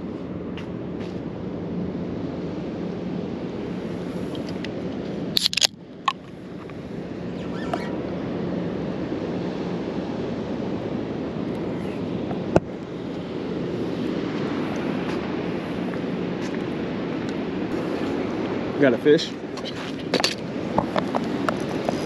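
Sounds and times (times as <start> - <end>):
ocean surf: 0.0 - 22.0
wind on microphone: 0.0 - 22.0.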